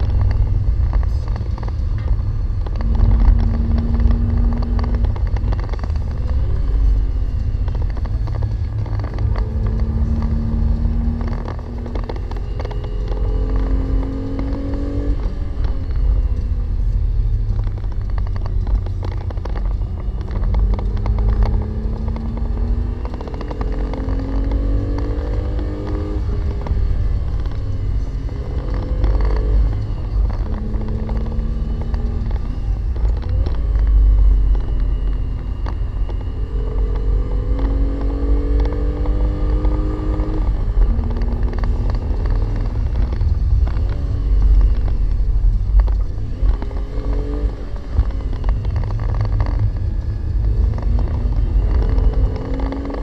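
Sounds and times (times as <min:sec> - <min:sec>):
car engine accelerating: 0:00.0 - 0:53.0
low road rumble: 0:00.0 - 0:53.0.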